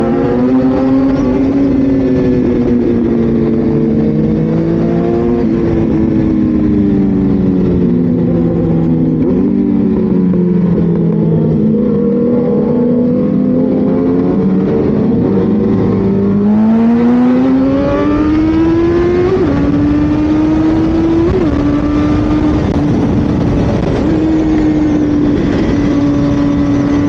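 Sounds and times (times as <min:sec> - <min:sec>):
loud motorcycle engine: 0:00.0 - 0:27.0.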